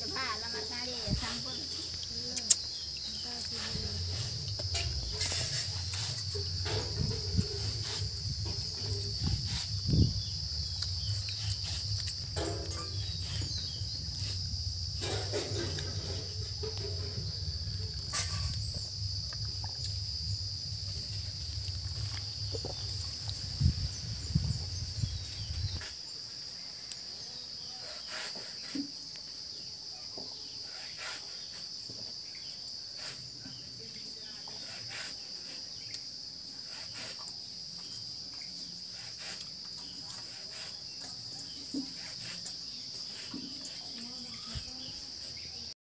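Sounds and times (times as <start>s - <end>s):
insects trilling: 0.0s - 45.8s.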